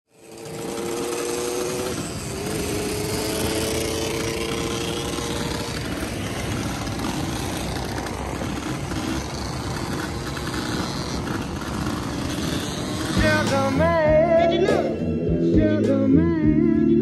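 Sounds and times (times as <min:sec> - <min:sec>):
dirt bike engines high revs: 0:00.1 - 0:17.0.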